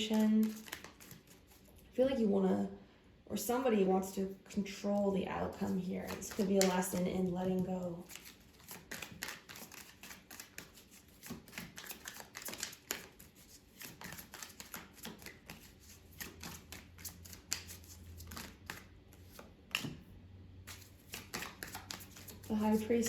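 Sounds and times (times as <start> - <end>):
cards being shuffled: 0.0 - 1.8, 5.5 - 20.0, 20.7 - 23.0.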